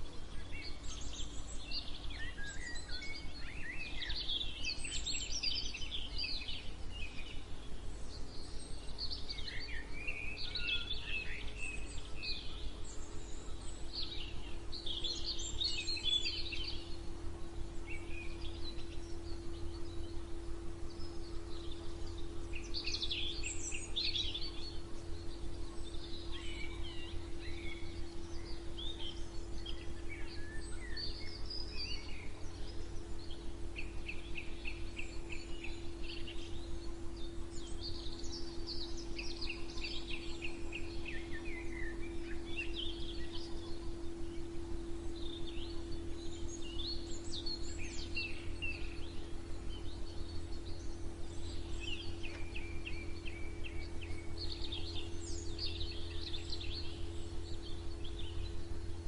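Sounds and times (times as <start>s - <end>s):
birds singing: 0.0s - 59.0s
low hum and rumble: 0.0s - 59.0s.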